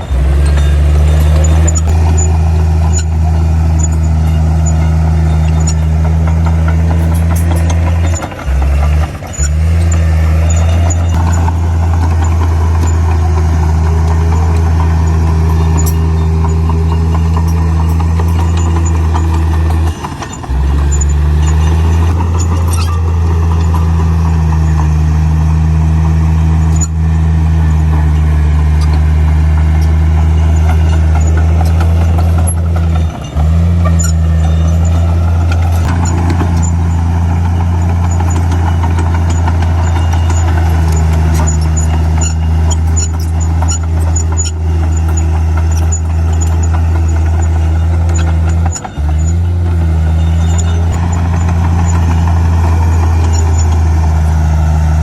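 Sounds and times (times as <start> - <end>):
heavy diesel engine drone: 0.0 - 55.0.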